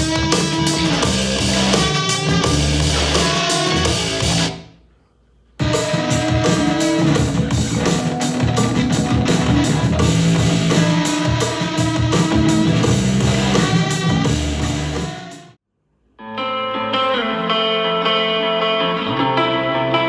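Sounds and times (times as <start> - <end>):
instrumental music through speaker: 0.0 - 4.7, 5.6 - 15.6, 16.2 - 20.0.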